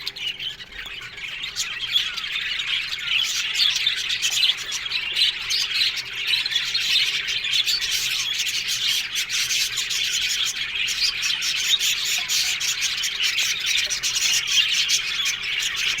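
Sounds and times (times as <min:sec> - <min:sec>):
budgies chattering: 0:00.0 - 0:16.0.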